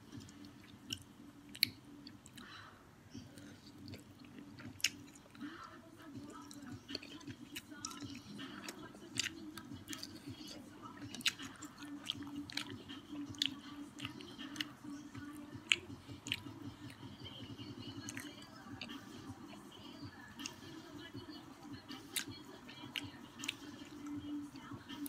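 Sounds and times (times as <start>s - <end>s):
person chewing: 0.0s - 17.2s, 17.9s - 19.2s, 22.0s - 24.2s
low steady hum: 0.0s - 25.0s.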